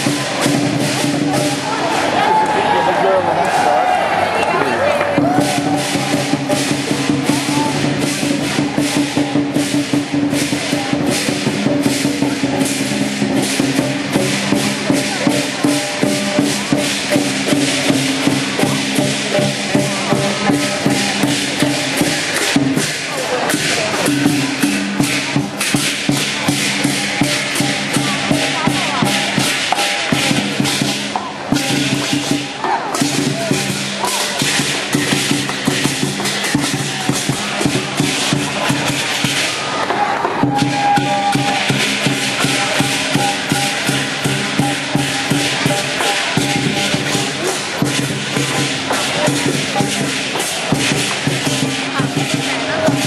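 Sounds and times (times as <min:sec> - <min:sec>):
cymbals clashing: 0:00.0 - 0:04.3, 0:04.9 - 0:53.0
big drum beating: 0:00.0 - 0:53.0
crowd voices: 0:00.0 - 0:53.0.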